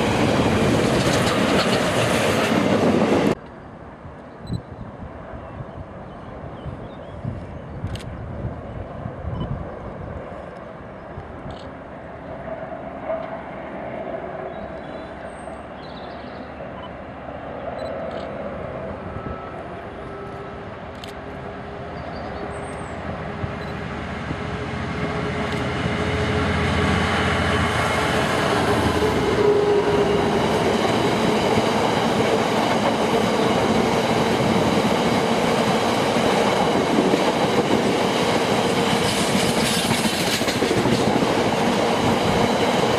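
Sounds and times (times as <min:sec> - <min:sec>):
train passing on rails: 0:00.0 - 0:42.9.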